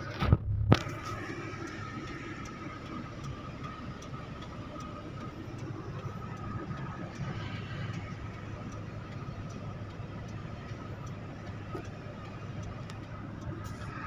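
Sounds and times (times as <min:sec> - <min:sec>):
truck diesel engine rumbling: 0:00.0 - 0:14.0
faint repeating tick: 0:00.8 - 0:14.0.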